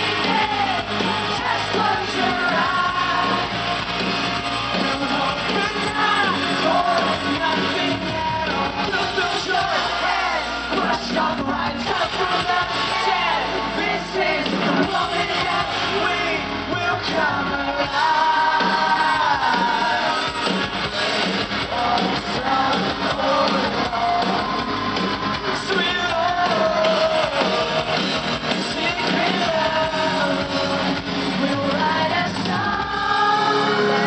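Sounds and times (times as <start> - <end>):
man singing: 0.0 - 3.6, 4.4 - 24.6, 25.4 - 34.0.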